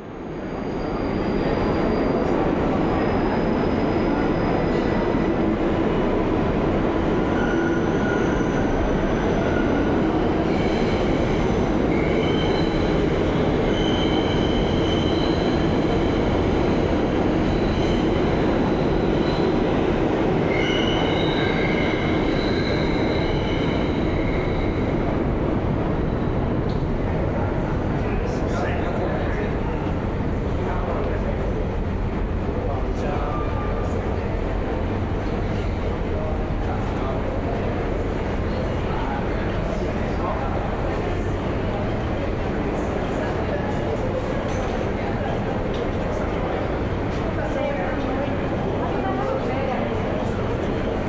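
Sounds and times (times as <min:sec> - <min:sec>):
subway train wheels rumbling: 0:00.0 - 0:51.0.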